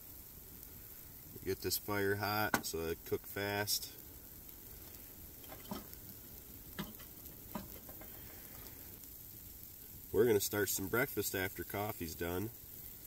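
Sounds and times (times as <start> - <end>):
fire crackles and ticks: 0.0 - 13.0
wood stove sizzling hiss: 0.0 - 13.0.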